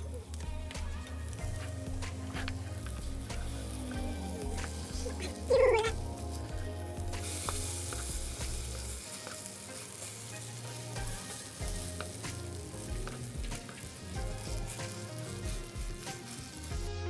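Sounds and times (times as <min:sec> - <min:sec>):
stirring clicks: 0:00.0 - 0:16.4
food sizzling in oil: 0:00.0 - 0:16.9.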